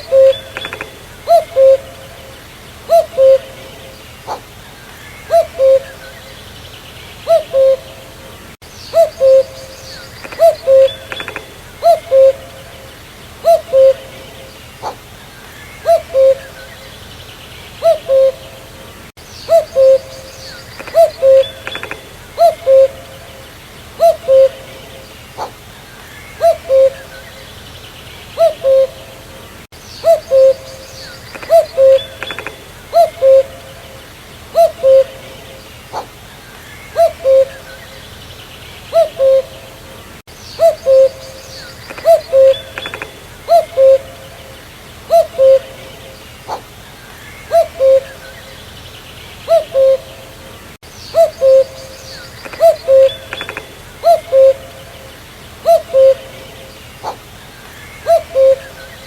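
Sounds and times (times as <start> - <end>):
cuckoo calling: 0.0 - 6.5, 7.2 - 17.1, 17.7 - 27.6, 28.3 - 38.2, 38.9 - 48.7, 49.4 - 59.0
faint bird chirps: 0.0 - 29.2, 29.8 - 39.7, 40.3 - 59.0.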